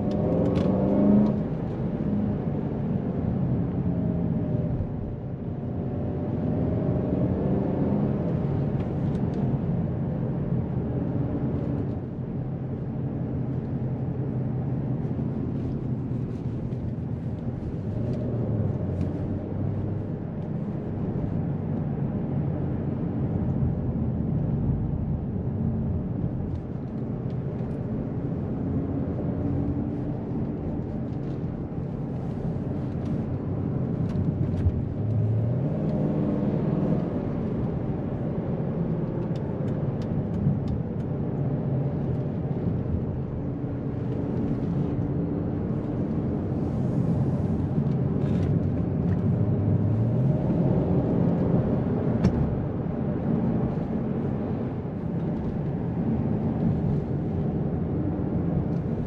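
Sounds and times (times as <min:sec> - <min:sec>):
tyre and road noise: 0:05.8 - 0:59.0.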